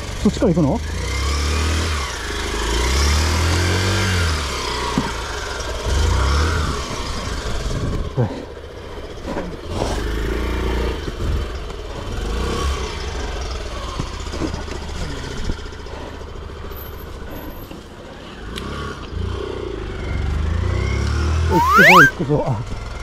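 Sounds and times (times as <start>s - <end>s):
small motorcycle engine revving: 0.1s - 17.4s, 18.3s - 23.0s.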